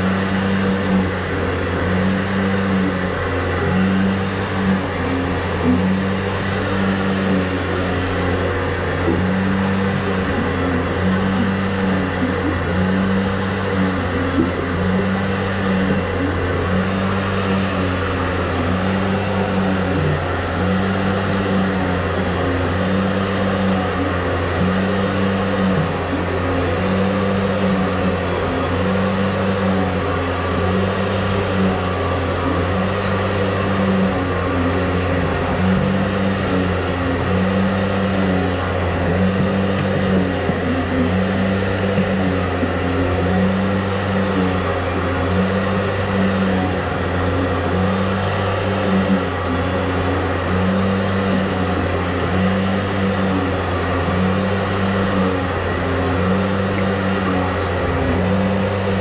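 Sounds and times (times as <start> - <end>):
drain cleaning machine motor: 0.0 - 59.0.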